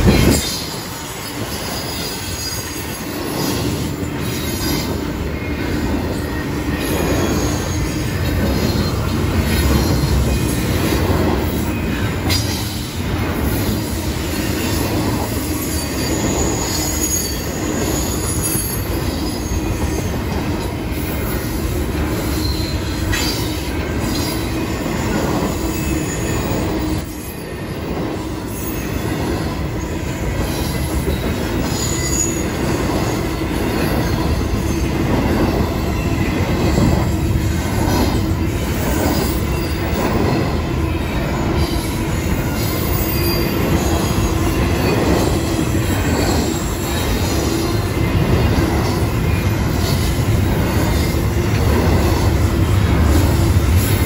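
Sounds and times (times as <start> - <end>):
train wheels rumbling and rattling: 0.0 - 54.0
high wheel squeals: 0.1 - 11.0, 11.6 - 51.6.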